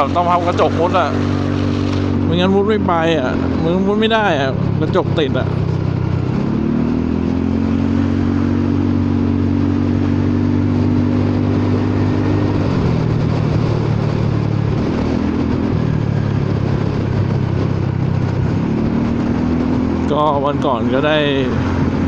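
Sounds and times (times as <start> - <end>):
road noise: 0.0 - 22.0
scooter engine under throttle: 0.0 - 22.0
wind noise: 0.0 - 22.0.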